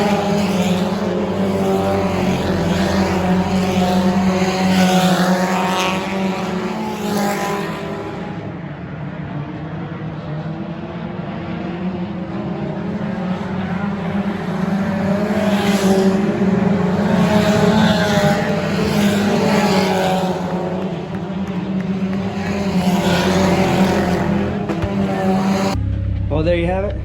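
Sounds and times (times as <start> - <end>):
race car engines droning: 0.0 - 27.0.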